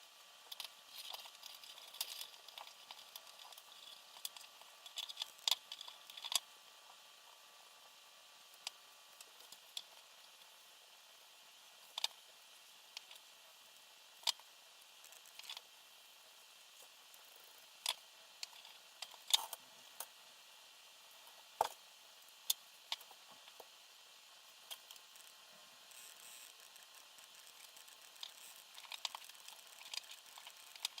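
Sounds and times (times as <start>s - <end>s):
faint hiss: 0.0s - 31.0s
small parts clicking and tapping: 0.4s - 7.0s, 8.4s - 10.6s, 11.8s - 12.3s, 12.9s - 15.8s, 16.8s - 20.2s, 21.2s - 31.0s.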